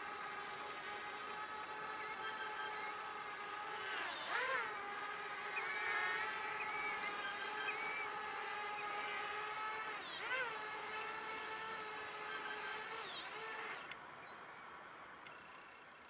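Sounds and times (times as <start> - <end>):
drone propellers whining: 0.0 - 15.7
small birds chirping: 0.1 - 16.0.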